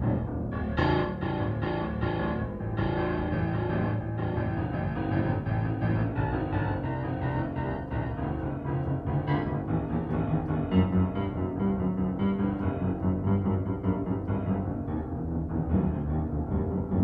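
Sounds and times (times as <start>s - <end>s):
dense piano-like keyboard music: 0.0s - 17.0s.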